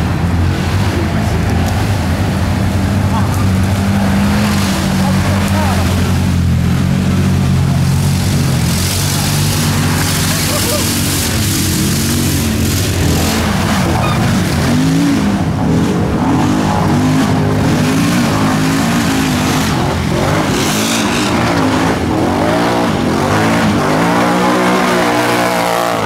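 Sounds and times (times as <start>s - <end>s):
quad engines revving: 0.0s - 26.0s
wheels spinning in mud: 0.0s - 26.0s.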